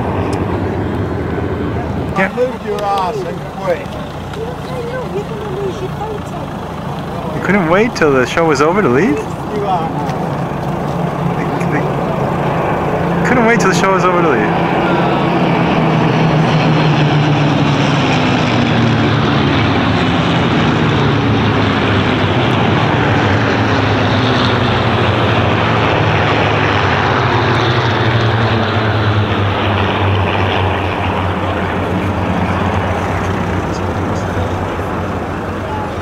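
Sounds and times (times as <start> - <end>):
propeller aircraft engines droning: 0.0 - 36.0.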